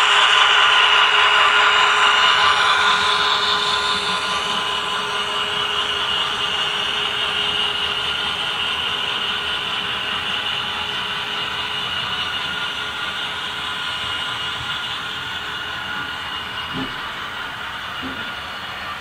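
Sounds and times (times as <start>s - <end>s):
model train cars rolling: 0.0s - 19.0s.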